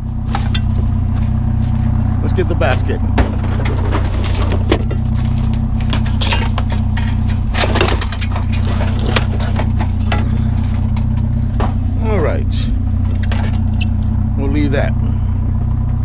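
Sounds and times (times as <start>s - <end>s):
clanks and rattles: 0.0s - 14.4s
vehicle engine idling: 0.0s - 16.0s.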